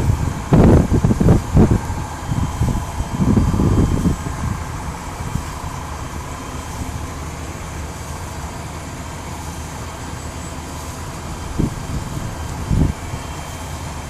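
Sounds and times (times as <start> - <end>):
distant emergency siren: 0.0 - 14.0
traffic rumble: 0.0 - 14.0.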